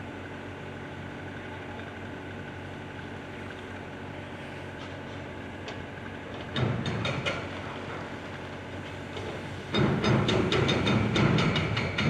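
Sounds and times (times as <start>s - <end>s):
heavy machinery engine drone: 0.0s - 12.0s.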